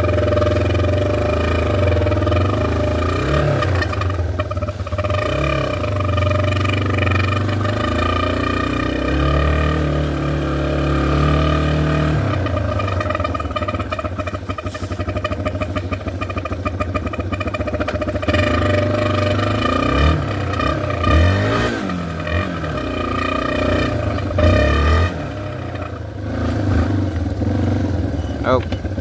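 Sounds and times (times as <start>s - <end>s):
dirt bike engine: 0.0s - 29.0s.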